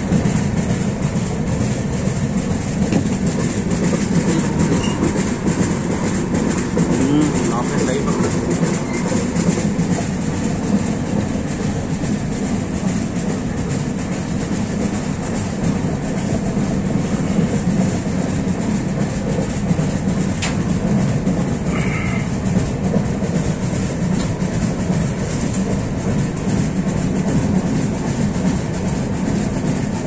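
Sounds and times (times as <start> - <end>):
train wheels running on track: 0.0 - 30.0.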